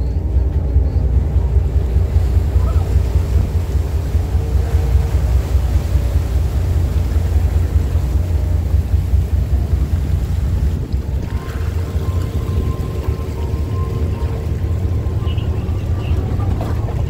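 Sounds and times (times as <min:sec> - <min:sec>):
hull churning water among ice: 0:00.0 - 0:17.0
ship engine rumble: 0:00.0 - 0:17.0
wind buffeting microphone: 0:00.0 - 0:17.0.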